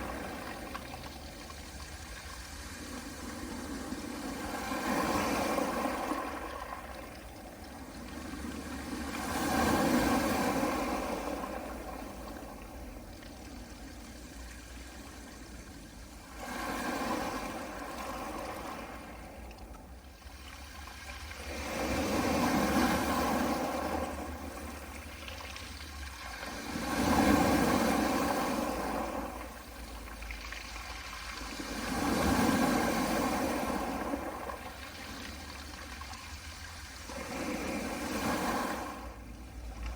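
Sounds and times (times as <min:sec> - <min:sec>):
waves washing over pebble beach: 0:00.0 - 0:13.0, 0:16.2 - 0:19.4, 0:20.3 - 0:39.9.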